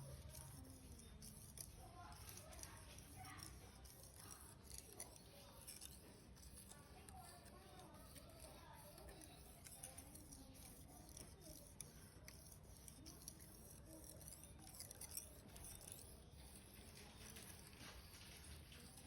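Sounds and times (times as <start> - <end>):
light ticks and scrapes: 0.0 - 19.0.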